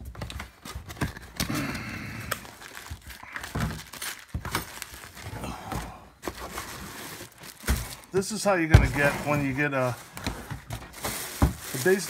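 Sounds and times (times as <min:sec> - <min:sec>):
packaging crinkling and rustling: 0:00.0 - 0:01.5, 0:02.2 - 0:05.4, 0:06.2 - 0:12.0.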